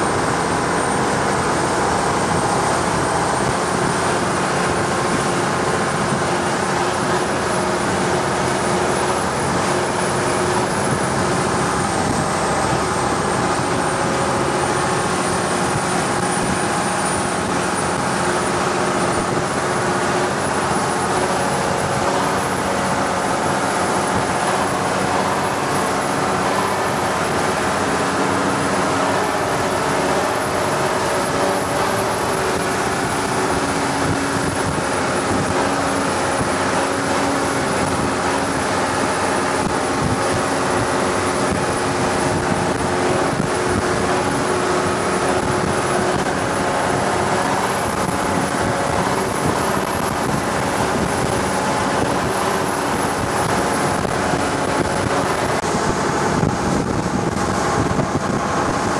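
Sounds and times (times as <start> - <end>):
boat engine drone: 0.0 - 58.9
rush of wind and water: 0.0 - 58.9.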